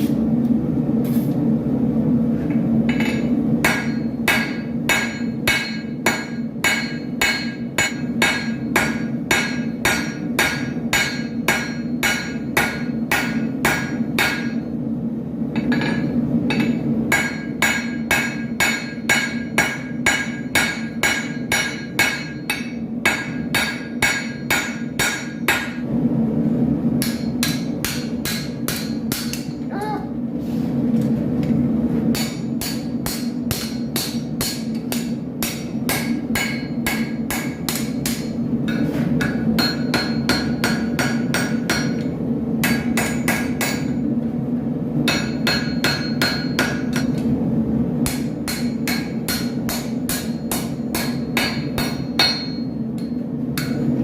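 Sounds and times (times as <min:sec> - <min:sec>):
hammer striking steel on anvil: 0:02.8 - 0:14.8, 0:15.5 - 0:25.9, 0:27.0 - 0:29.7, 0:32.1 - 0:44.1, 0:45.0 - 0:47.3, 0:48.0 - 0:54.0.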